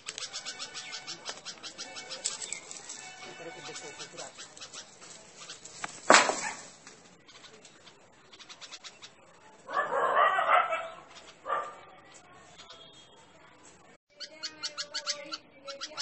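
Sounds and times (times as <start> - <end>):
bird harsh alarm calls: 0.0 - 11.8, 14.1 - 16.0.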